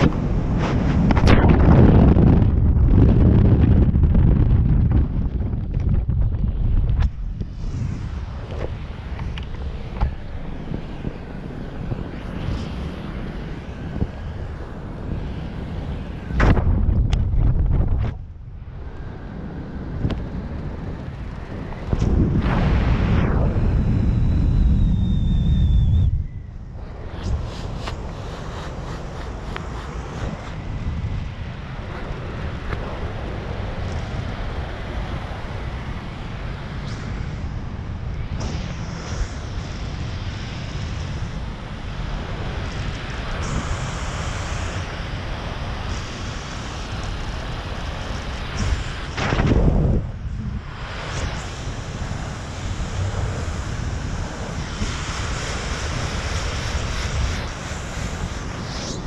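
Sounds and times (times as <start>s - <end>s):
hissing wind gust: 0.0s - 59.0s
wind buffeting microphone: 0.0s - 59.0s.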